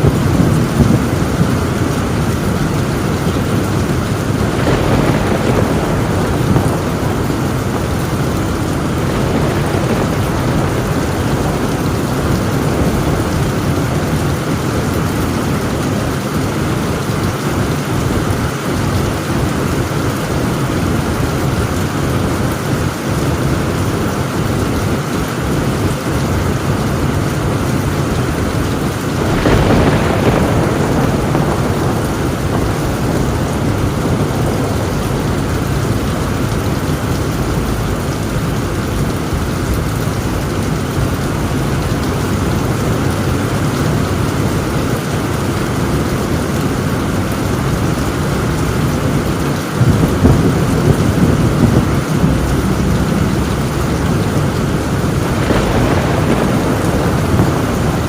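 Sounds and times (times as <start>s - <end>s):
heavy rain on a tin roof: 0.0s - 58.0s
thunder crack: 0.0s - 58.0s.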